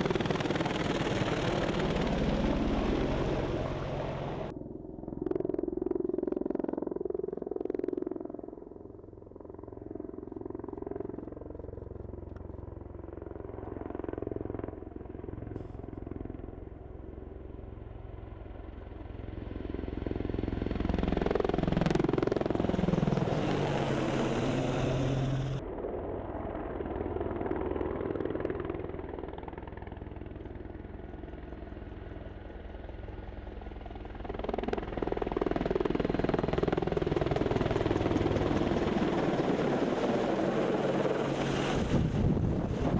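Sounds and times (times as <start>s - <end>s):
helicopter engines and rotor: 0.0s - 42.9s.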